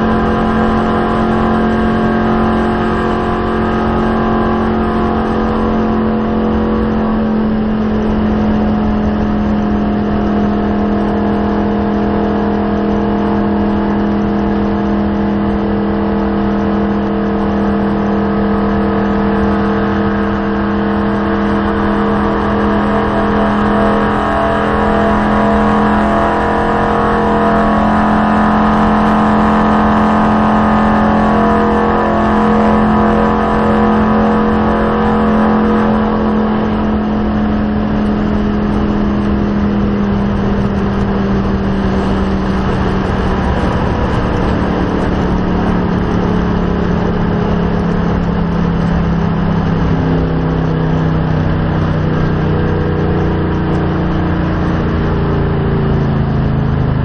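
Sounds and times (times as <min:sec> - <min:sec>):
race car engine at full speed: 0:00.0 - 0:57.0
road and wind noise: 0:00.0 - 0:57.0.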